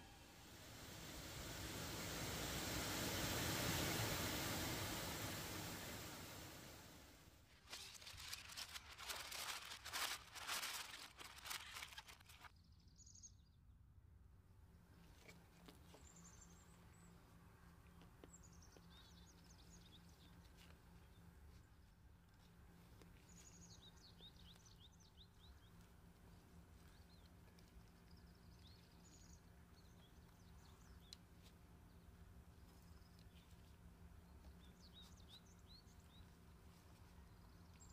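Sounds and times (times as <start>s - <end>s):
faint steady hum: 0.0s - 11.6s, 13.0s - 37.9s.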